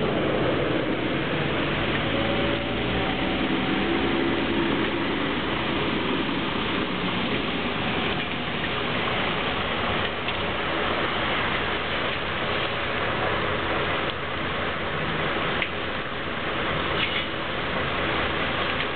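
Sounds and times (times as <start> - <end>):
lorry diesel engine running low: 0.0 - 15.5
rain and tyres on wet asphalt: 0.0 - 18.9.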